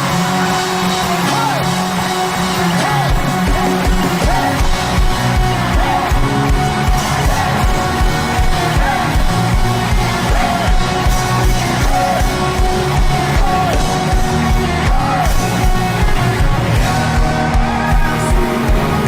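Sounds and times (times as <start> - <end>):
live gospel band playing: 0.0 - 19.0.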